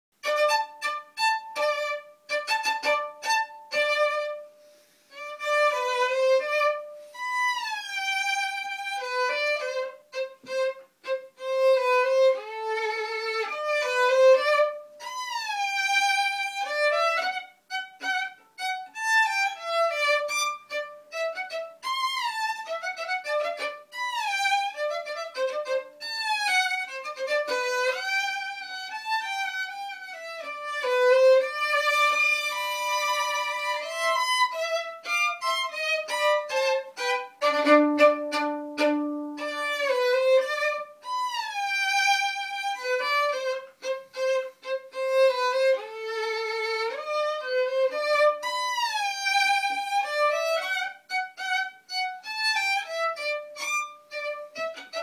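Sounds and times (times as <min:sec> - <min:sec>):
solo violin playing a waltz: 0:00.2 - 0:55.0.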